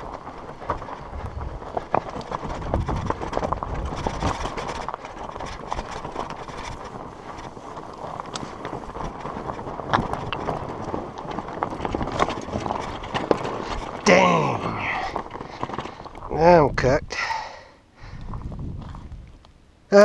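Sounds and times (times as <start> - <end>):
bike rattling: 0.0 - 20.0
fat tyres rumbling on loose rock: 0.0 - 20.0.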